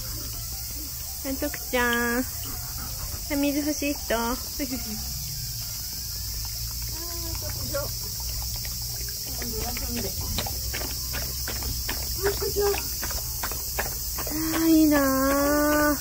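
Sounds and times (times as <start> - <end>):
dog lapping water: 0.0 - 16.0
high drone of insects: 0.0 - 16.0.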